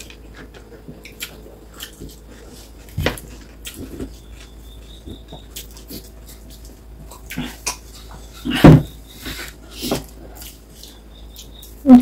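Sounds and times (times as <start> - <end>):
chewing and smacking mouth sounds: 0.0 - 11.8.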